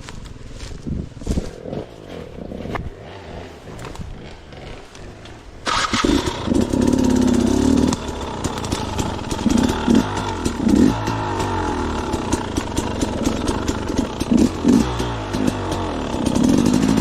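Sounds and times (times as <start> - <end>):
dirt bike engine revving: 1.4 - 17.0.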